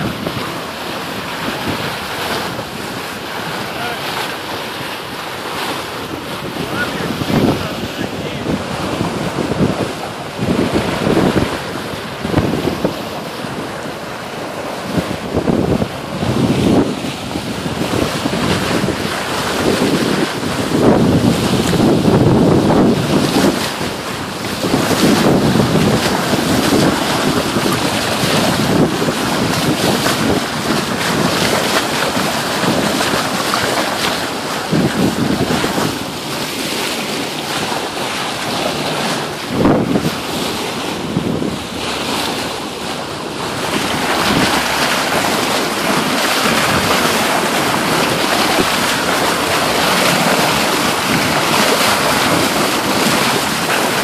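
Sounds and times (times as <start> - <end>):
water rushing along hull: 0.0 - 54.0
wind buffeting microphone: 0.0 - 54.0.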